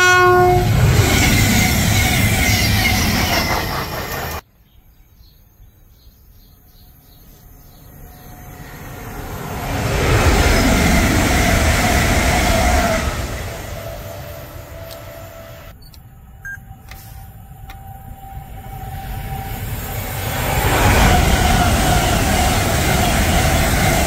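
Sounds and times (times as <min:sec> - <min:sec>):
train passing at speed: 0:00.0 - 0:04.5, 0:06.4 - 0:24.0
train approaching and passing: 0:00.0 - 0:04.6, 0:05.8 - 0:24.0.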